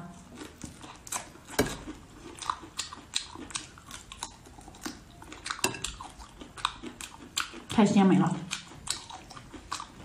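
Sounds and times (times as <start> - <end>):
person chewing wetly: 0.0 - 10.0.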